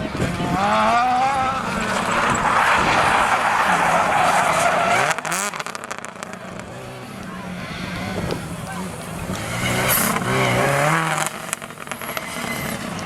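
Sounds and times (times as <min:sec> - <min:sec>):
rally car engine revving: 0:00.0 - 0:13.0
tyres skidding: 0:00.0 - 0:13.0
car rushing past: 0:00.4 - 0:13.0.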